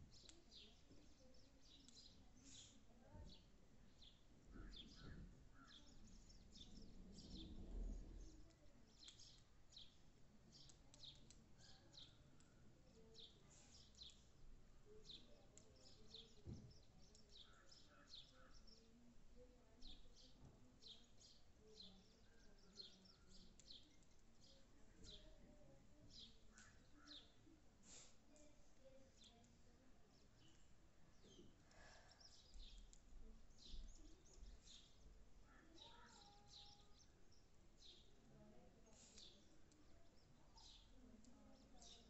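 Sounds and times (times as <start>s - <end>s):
sparrows chirping: 0.0s - 42.0s.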